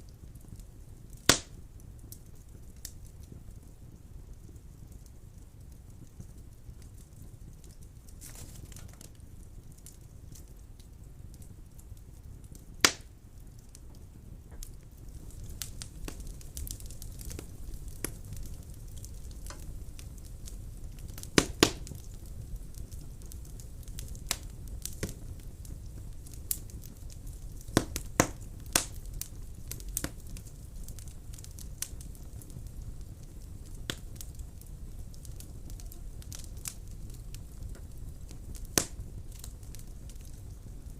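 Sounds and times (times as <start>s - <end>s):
fire crackles and pops: 0.0s - 40.9s
fire rumbling: 0.0s - 40.9s.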